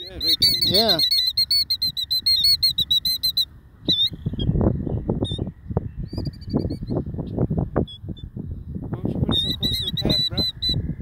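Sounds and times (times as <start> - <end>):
killdeer alarm calls: 0.0 - 8.4, 9.2 - 11.0.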